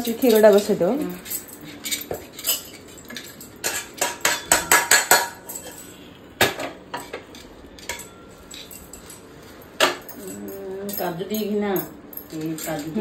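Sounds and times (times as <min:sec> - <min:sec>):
metal utensils and pots clattering: 0:00.0 - 0:13.0.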